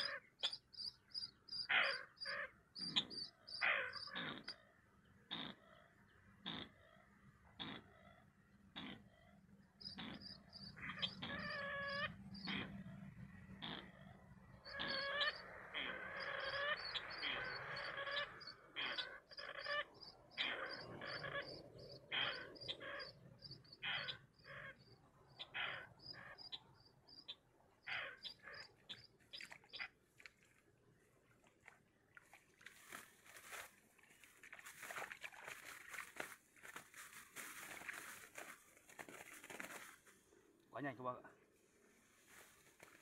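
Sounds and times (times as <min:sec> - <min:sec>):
birds calling: 0:00.0 - 0:41.2.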